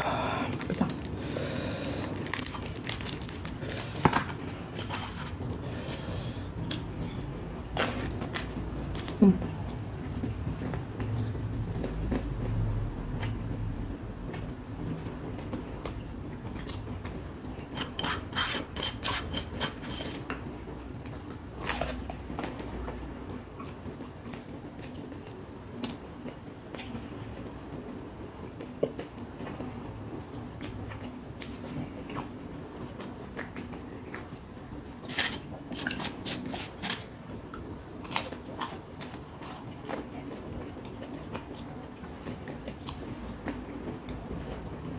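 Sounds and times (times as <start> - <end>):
chewing crispy fritters: 0.0 - 5.9, 7.6 - 44.9.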